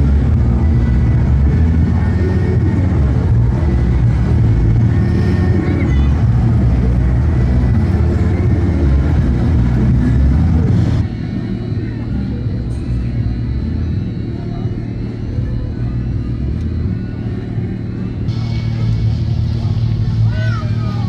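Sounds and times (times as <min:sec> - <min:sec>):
boat engine rumble: 0:00.0 - 0:21.0.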